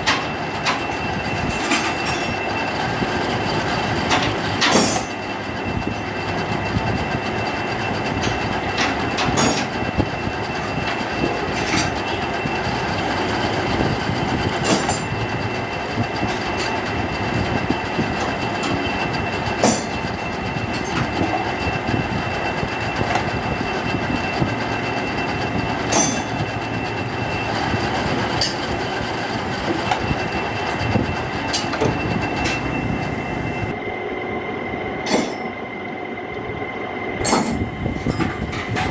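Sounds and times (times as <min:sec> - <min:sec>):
high whine: 0:00.0 - 0:38.9
metal lathe machining: 0:00.0 - 0:38.9.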